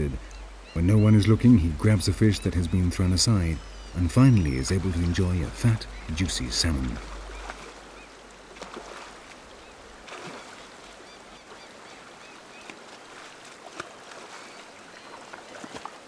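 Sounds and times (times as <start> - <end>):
river water running and splashing: 0.0 - 16.0.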